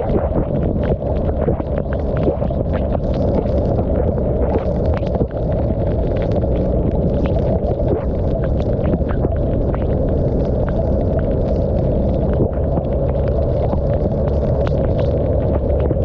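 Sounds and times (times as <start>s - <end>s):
rain ticking on camera: 0.0s - 16.0s
wind rushing over microphone: 0.0s - 16.0s.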